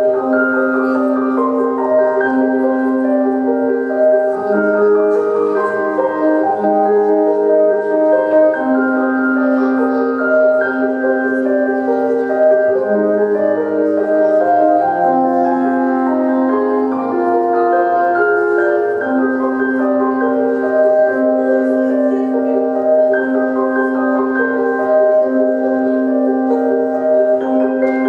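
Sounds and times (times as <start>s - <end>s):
bell-like notes: 0.0s - 28.0s
slow keyboard chords: 0.0s - 28.0s.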